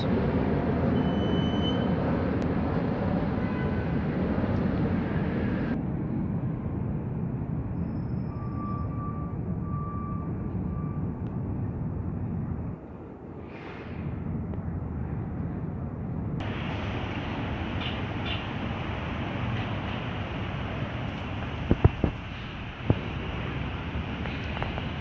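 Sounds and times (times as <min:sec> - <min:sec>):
low city rumble: 0:00.0 - 0:25.0.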